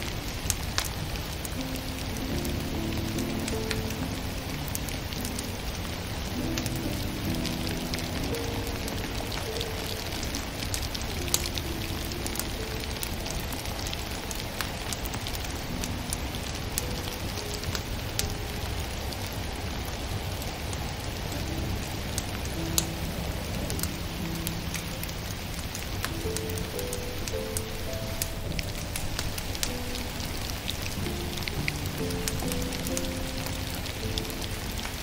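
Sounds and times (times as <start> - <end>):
rain-like hiss: 0.0 - 35.0
slow sustained music notes: 0.0 - 35.0
wood fire crackling and popping: 0.0 - 35.0.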